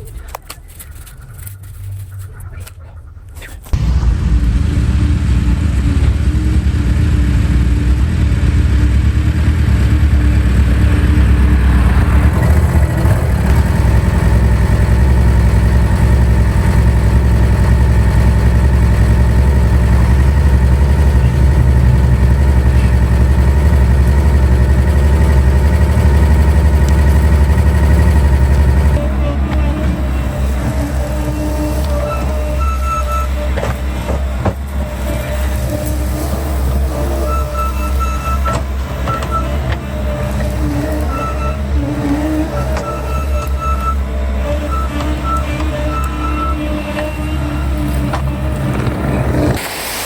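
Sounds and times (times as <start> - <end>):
work machine engine running: 0.0 - 50.0.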